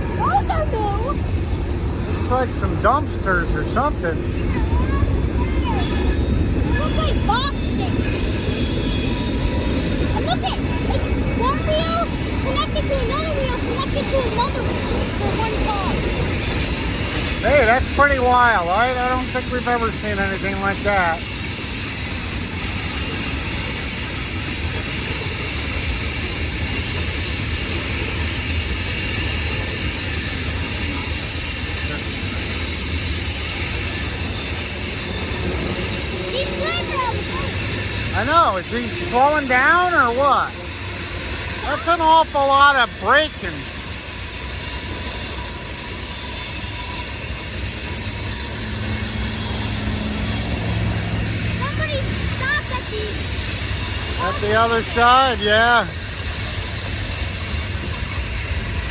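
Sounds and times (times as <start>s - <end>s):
high-pitched wheel squeal: 0.0s - 58.9s
train wheels rumbling on rails: 0.0s - 58.9s.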